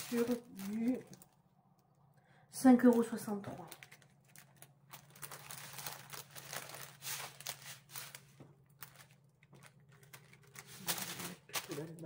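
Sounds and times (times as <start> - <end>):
plastic packaging crinkling: 0.0 - 1.9, 2.6 - 12.0.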